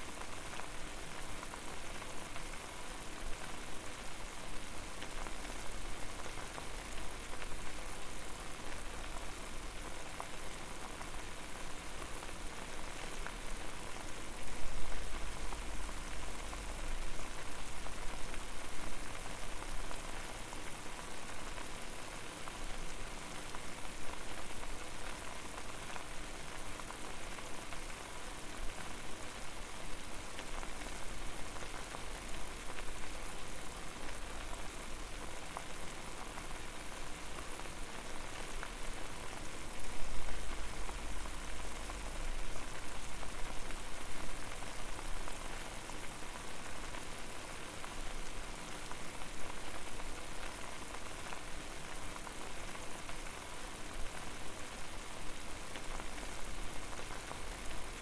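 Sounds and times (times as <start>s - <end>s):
water boiling hard: 3.3s - 58.0s.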